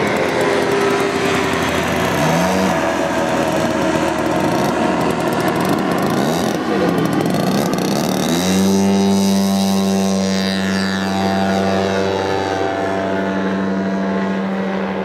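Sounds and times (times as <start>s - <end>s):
model plane engine running: 0.0s - 15.0s.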